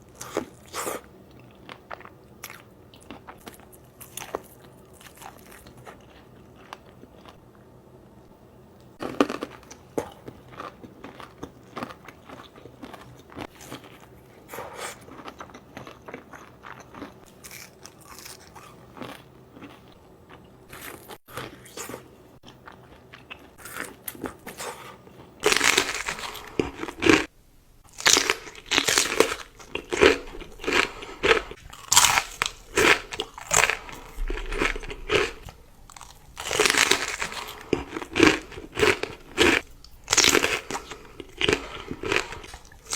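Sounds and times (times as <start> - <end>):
chewing crisp food: 0.1 - 7.7, 9.0 - 27.3, 27.9 - 42.9.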